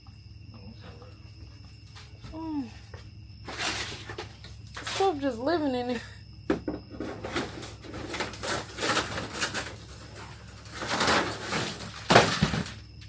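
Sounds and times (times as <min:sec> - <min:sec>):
crunching and scraping of debris: 0:00.8 - 0:13.0.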